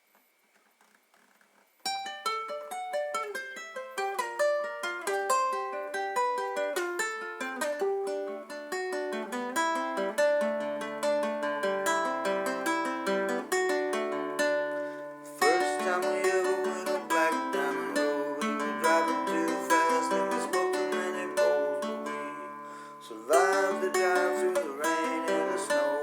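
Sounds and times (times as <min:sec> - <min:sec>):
fingerpicked string instrument: 0:01.8 - 0:26.0.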